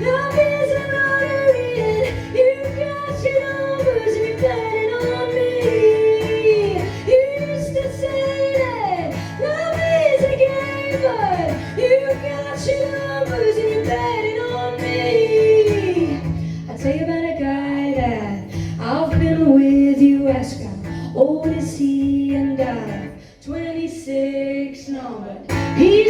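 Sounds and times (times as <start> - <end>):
guitar accompaniment: 0.0 - 24.1, 24.7 - 26.0
woman singing: 0.0 - 26.0.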